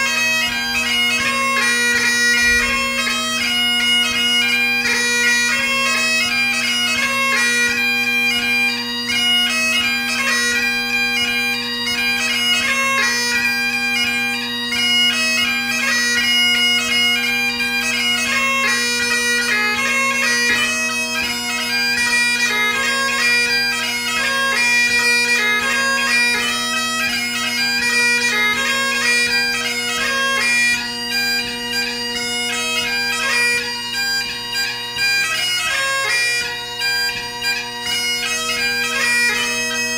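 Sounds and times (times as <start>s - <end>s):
bagpipe chanter melody: 0.0s - 39.9s
bagpipe drones: 0.0s - 39.9s.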